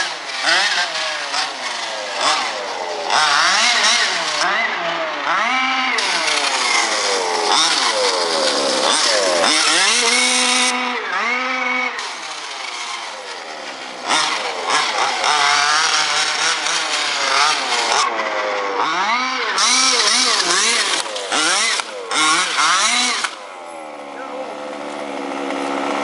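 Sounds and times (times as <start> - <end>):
two-stroke engine revving: 0.0 - 26.0.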